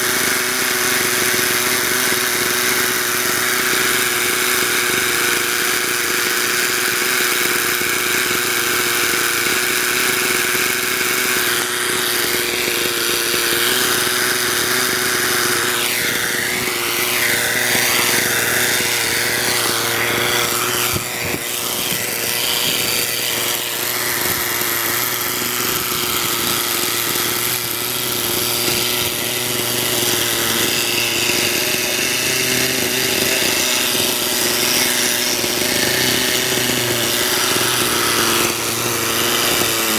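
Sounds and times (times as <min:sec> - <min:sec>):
rc helicopter engine and rotor: 0:00.0 - 0:39.9.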